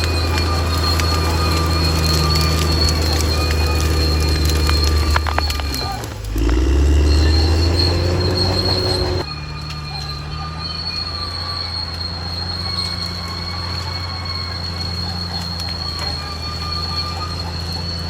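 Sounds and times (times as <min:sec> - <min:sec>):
bulldozer diesel engine working: 0:00.0 - 0:18.0
high steady squeal: 0:00.0 - 0:18.0.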